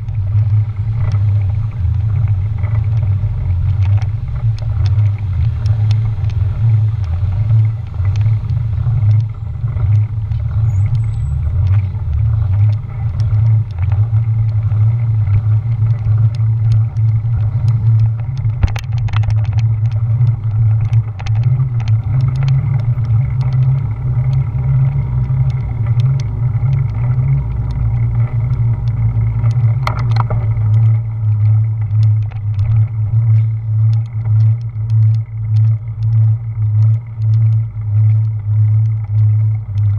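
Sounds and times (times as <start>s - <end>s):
bicycle ticks and rattles: 0.0s - 39.9s
wind and road rumble: 0.0s - 39.9s.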